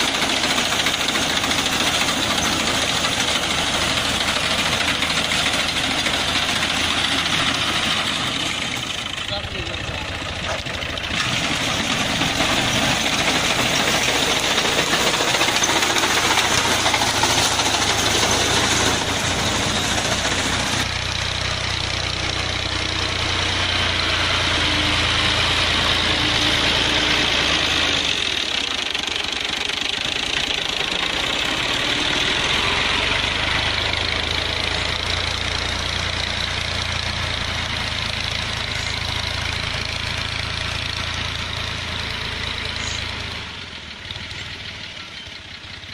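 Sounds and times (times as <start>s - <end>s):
farm machinery engine running: 0.0s - 45.9s.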